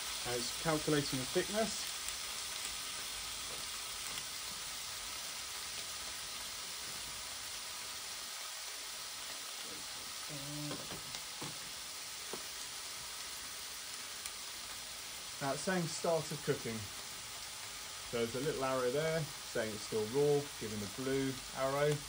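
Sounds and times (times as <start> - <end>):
lamb chops sizzling on grill: 0.0 - 22.0.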